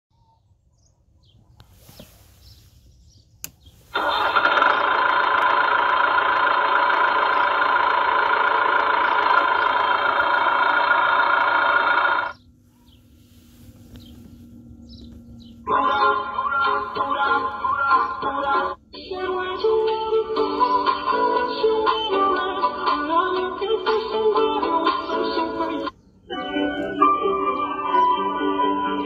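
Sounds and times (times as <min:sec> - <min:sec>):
recorded engine start-up sound: 0:03.7 - 0:29.0.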